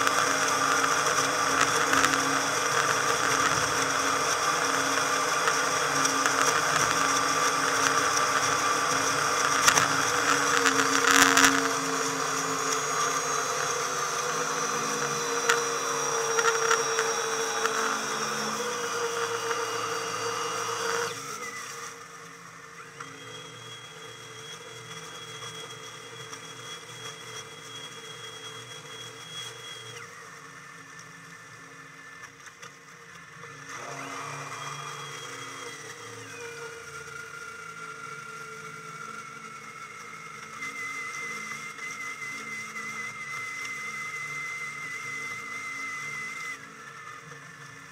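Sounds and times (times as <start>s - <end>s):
high boat engine whir: 0.0s - 47.9s.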